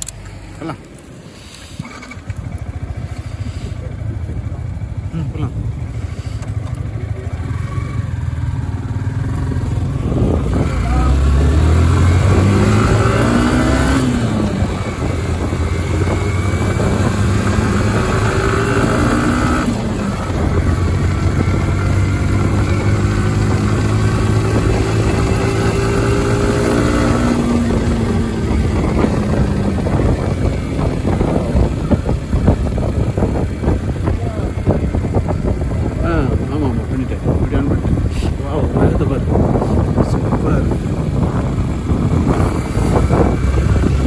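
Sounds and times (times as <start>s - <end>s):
motorcycle engine accelerating: 0.0s - 44.0s
wind and road noise: 0.0s - 44.0s.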